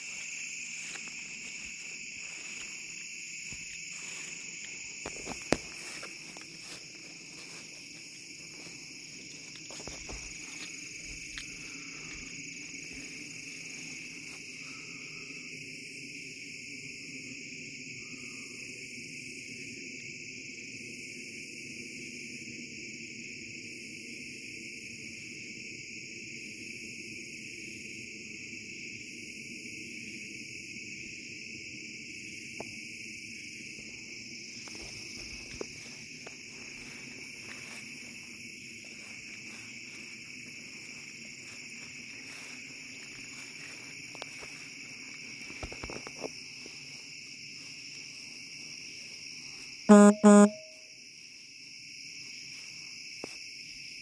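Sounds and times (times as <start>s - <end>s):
high pulsing insect call: 0.0s - 54.0s
insects trilling: 0.0s - 54.0s.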